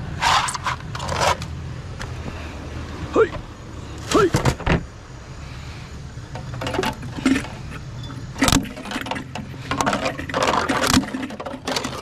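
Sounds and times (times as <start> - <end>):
clattering of plastic and metal fans: 0.0 - 2.4, 3.3 - 4.9, 6.3 - 12.0
vehicle engine idling: 0.0 - 10.0.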